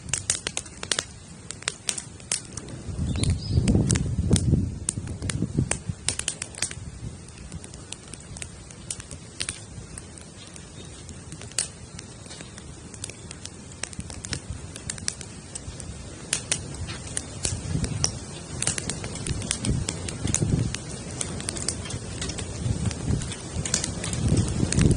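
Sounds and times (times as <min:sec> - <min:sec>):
campfire crackling and popping: 0:00.0 - 0:24.9
low rumble of burning: 0:00.0 - 0:24.9.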